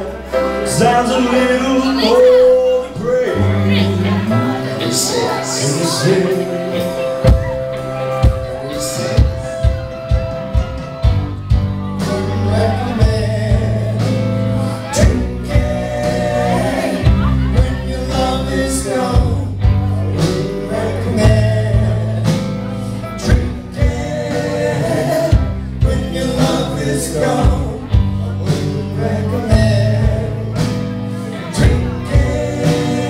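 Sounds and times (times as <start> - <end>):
men singing: 0.0 - 9.9, 11.8 - 33.0
drum kit: 0.0 - 33.0
electric guitars: 0.0 - 33.0
keyboard: 0.0 - 33.0.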